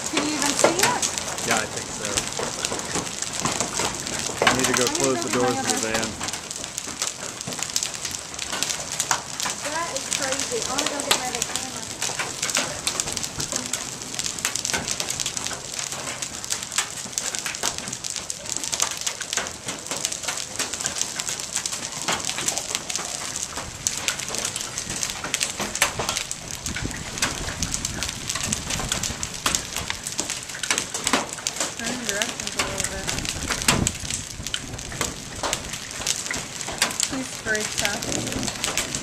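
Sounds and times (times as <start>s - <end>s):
hailstones clicking: 0.0s - 39.0s
hiss of falling ice and rain: 0.0s - 39.0s.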